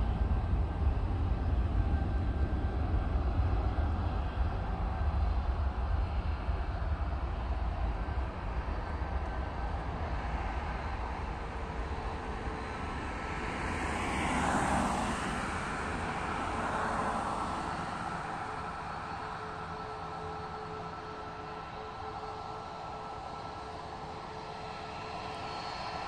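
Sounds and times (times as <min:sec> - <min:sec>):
jet airliner flying past: 0:00.0 - 0:26.0.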